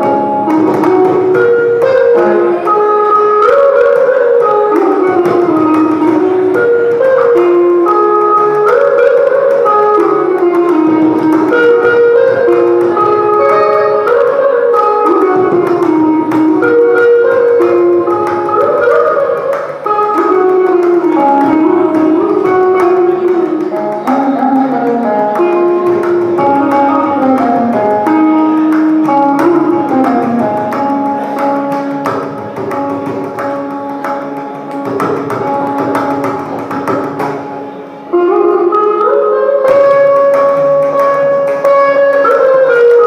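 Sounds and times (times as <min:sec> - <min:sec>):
electric mandolin melody: 0:00.0 - 0:43.0
hand drum strokes: 0:00.0 - 0:43.0.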